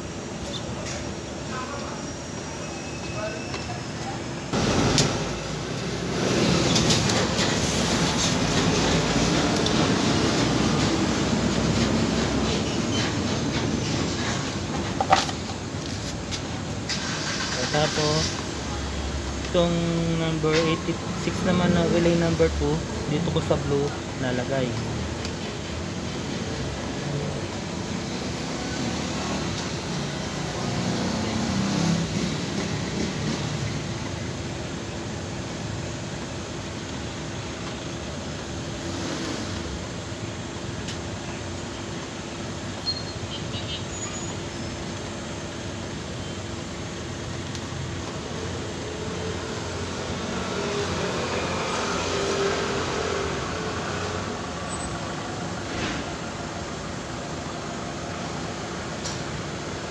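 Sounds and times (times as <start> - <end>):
road traffic noise: 0.0 - 59.9
steady background hiss: 0.0 - 59.9.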